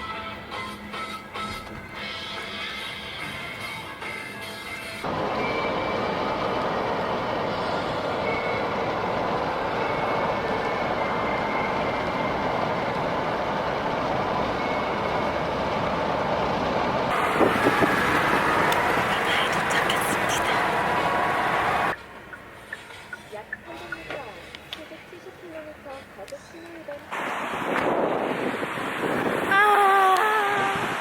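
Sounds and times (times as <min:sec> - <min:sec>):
car road and engine noise: 0:00.0 - 0:31.0.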